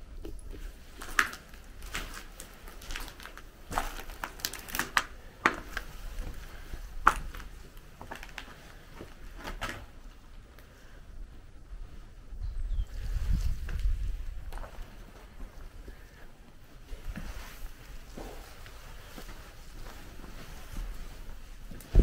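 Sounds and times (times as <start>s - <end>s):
footsteps crunching over rubble: 0.1s - 10.5s, 13.1s - 22.0s.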